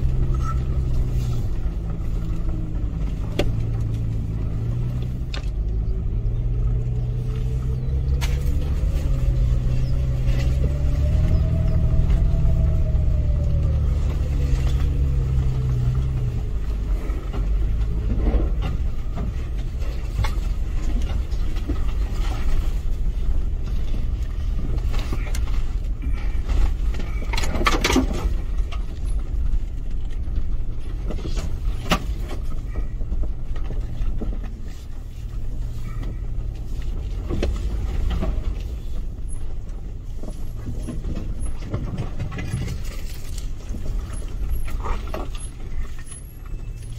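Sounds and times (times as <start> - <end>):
engine and tyre rumble: 0.0 - 46.9
knocks and rattles over bumps: 0.0 - 46.9.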